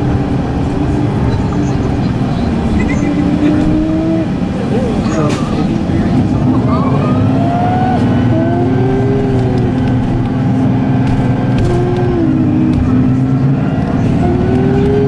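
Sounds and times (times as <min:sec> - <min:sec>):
bus engine drone: 0:00.0 - 0:15.0
drivetrain whine: 0:00.0 - 0:15.0.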